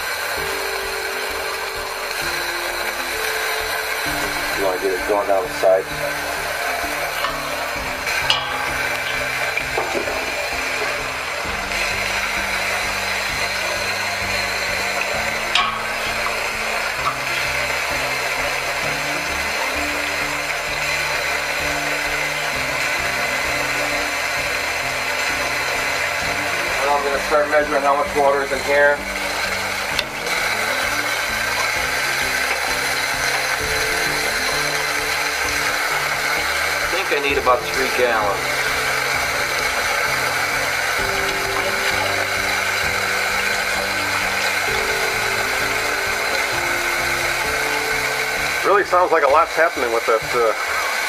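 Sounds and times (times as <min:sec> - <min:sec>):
background music with bass line: 0:00.0 - 0:51.0
water pouring and splashing: 0:00.0 - 0:51.0.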